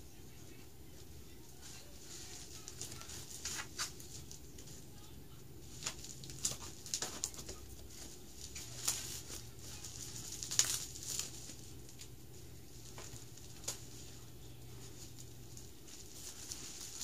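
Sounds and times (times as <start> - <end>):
bubble wrap crinkling: 1.0 - 17.0.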